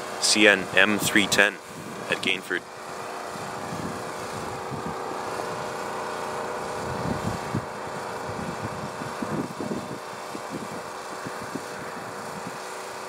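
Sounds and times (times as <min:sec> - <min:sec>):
locomotive diesel engines droning: 0:00.0 - 0:13.0.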